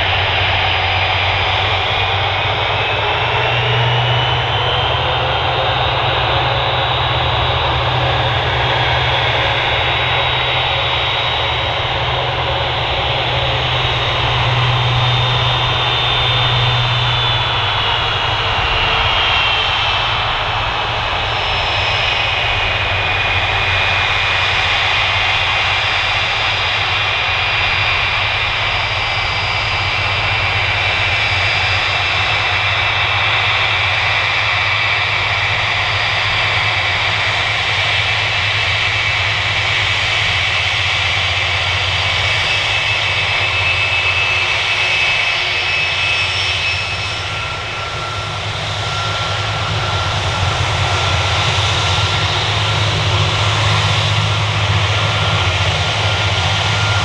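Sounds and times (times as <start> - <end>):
jet airliner taxiing: 0.0 - 57.0.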